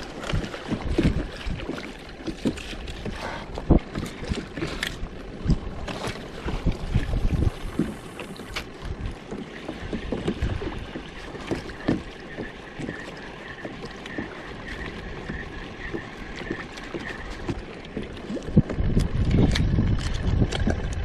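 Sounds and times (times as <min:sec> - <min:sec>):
low knocks of boat and gear: 0:00.0 - 0:21.0
water lapping against boat hull: 0:00.0 - 0:21.0.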